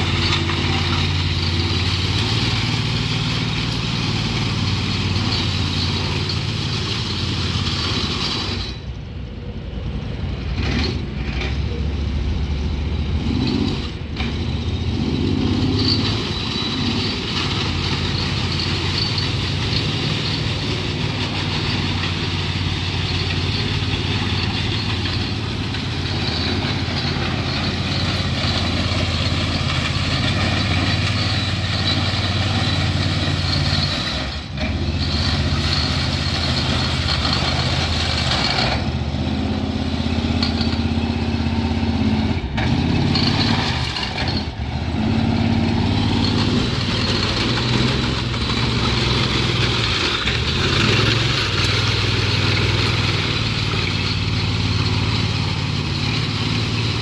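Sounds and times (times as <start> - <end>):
power trowel engine running: 0.0 - 9.0, 13.2 - 57.0.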